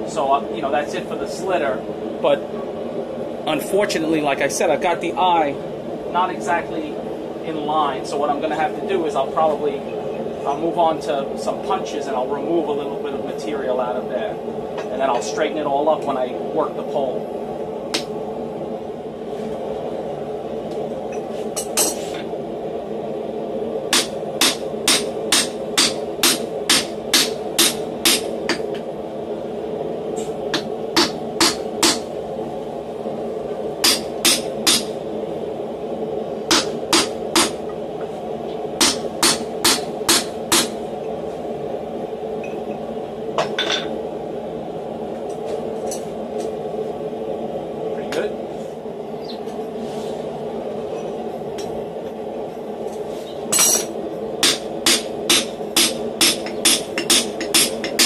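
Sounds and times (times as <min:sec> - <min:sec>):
steady workshop hum: 0:00.0 - 0:58.0.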